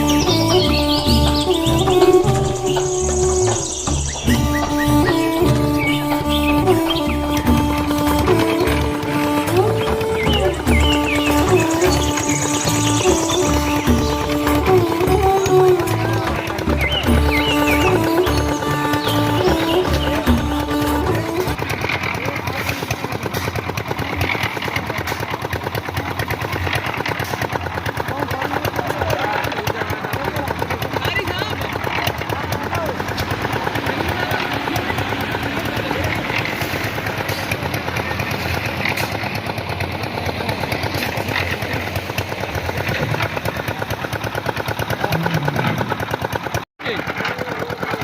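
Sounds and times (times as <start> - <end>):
concrete mixer engine chugging: 0.0 - 48.0.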